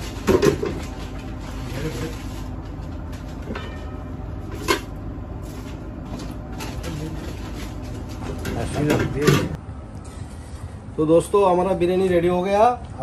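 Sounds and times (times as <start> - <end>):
kitchen background rumble: 0.0 - 13.0.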